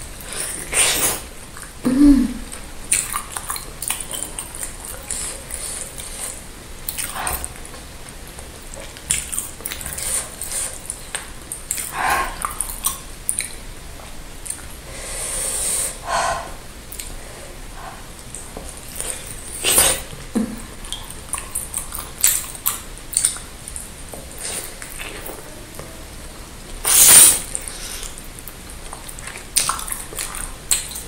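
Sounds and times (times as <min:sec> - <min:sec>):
close-miked eating and chewing: 0:02.5 - 0:14.9, 0:16.9 - 0:31.0.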